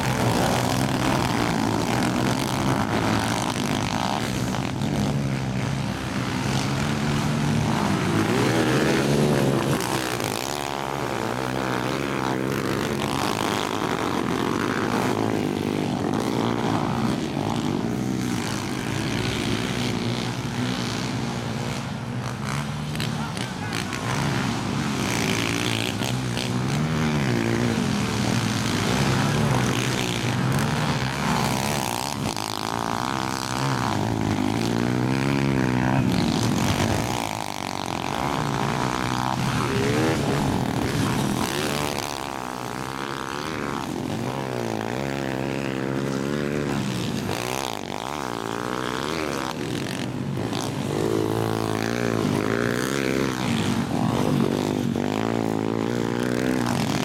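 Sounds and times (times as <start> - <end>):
motorbike engines revving: 0.0 - 57.0.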